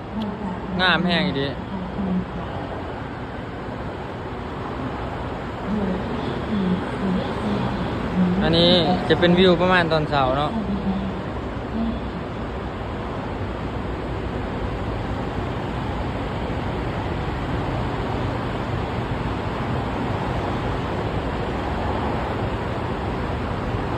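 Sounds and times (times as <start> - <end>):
steady rushing noise: 0.0 - 23.9.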